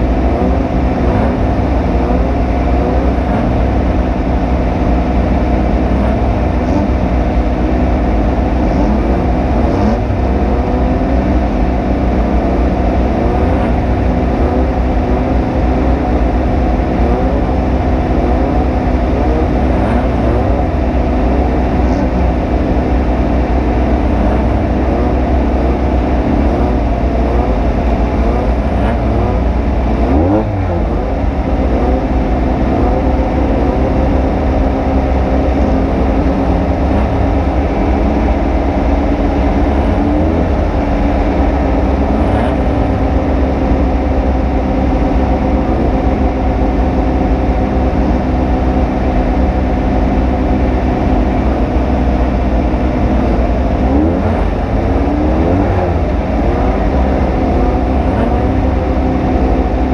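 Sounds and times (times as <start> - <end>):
vehicle engine revving hard: 0.0 - 59.9.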